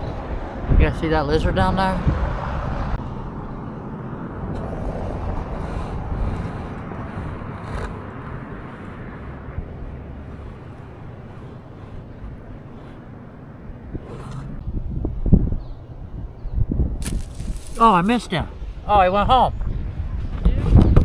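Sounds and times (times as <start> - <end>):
low rumbling noise: 0.0 - 18.9.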